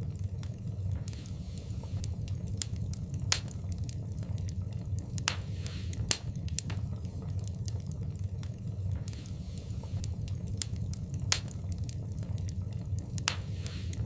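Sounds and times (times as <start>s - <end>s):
fire crackles and pops: 0.0s - 14.0s
fire hissing: 0.0s - 14.0s
low rumble of flames: 0.0s - 14.0s.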